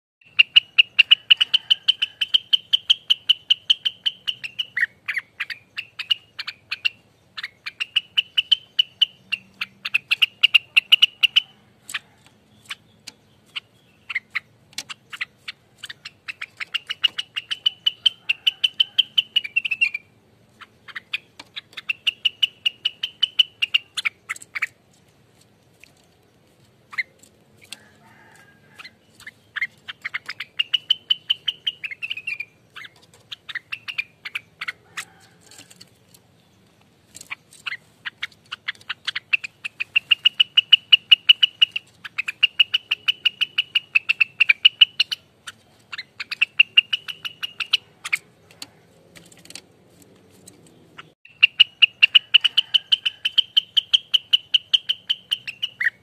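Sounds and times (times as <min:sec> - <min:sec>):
leafbird chattering song: 0:00.2 - 0:56.0.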